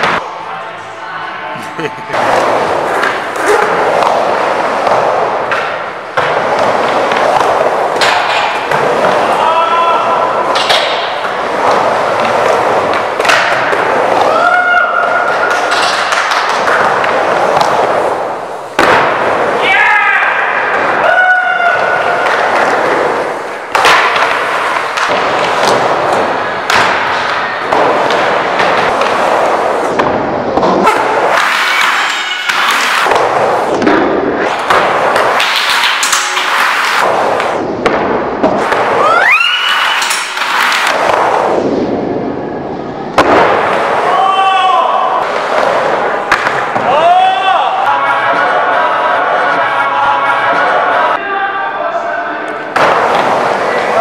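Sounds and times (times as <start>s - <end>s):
skateboard wheels rolling on wood: 2.1s - 47.6s, 52.7s - 54.0s.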